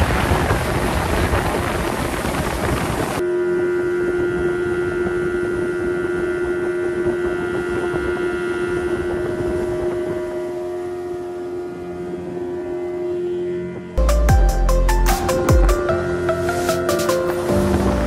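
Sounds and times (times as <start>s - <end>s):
wind and water rushing: 0.0s - 3.2s, 3.8s - 12.7s, 15.2s - 18.0s
outboard engine drone: 0.0s - 18.0s.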